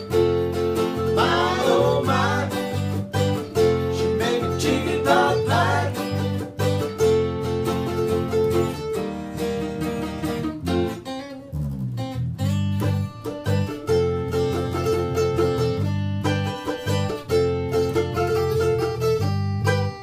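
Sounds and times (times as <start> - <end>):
acoustic guitar picking and strumming: 0.0 - 20.0
low bass notes: 0.1 - 17.8.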